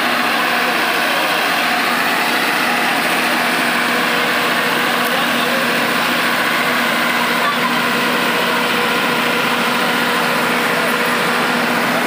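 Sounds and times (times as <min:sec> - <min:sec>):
diesel generator running: 0:00.0 - 0:12.0.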